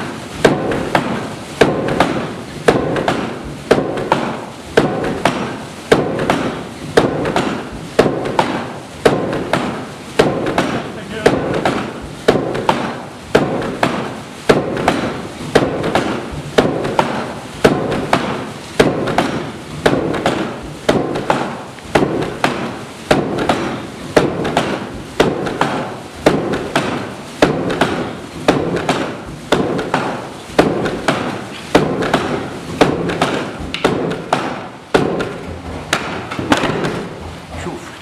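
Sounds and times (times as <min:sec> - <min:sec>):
steady mechanical noise: 0:00.0 - 0:38.0
tilt hammer striking anvil: 0:00.4 - 0:37.3.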